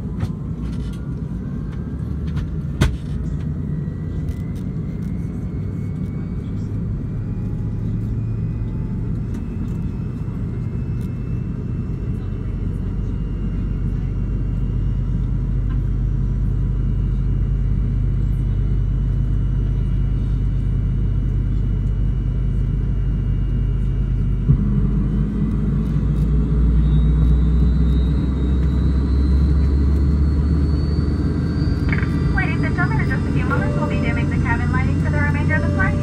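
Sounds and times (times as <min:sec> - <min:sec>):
aircraft cabin rumble: 0:00.0 - 0:36.0
jet engine whine: 0:00.0 - 0:36.0.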